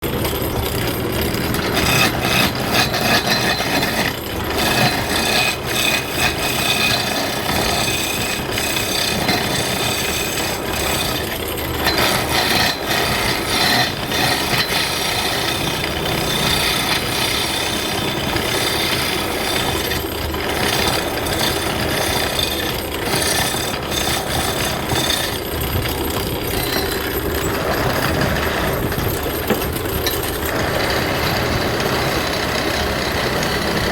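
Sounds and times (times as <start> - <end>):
wood lathe tool scraping wood: 0.0 - 33.9.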